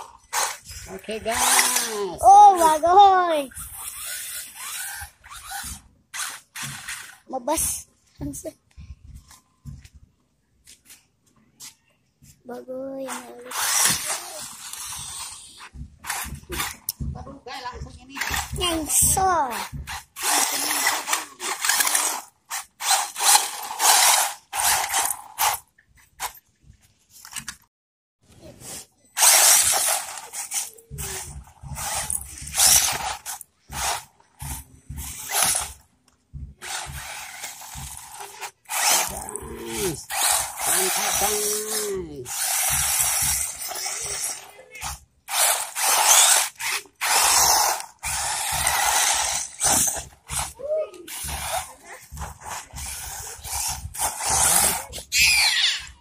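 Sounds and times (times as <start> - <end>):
toy car motor whirring: 0.0 - 9.4, 12.5 - 26.4, 28.4 - 35.9, 36.5 - 56.0.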